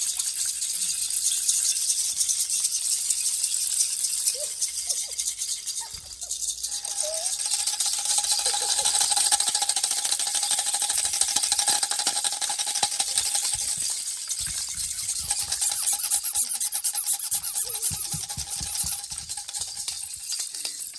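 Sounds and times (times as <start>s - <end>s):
baby rattle shaken: 0.0s - 20.9s.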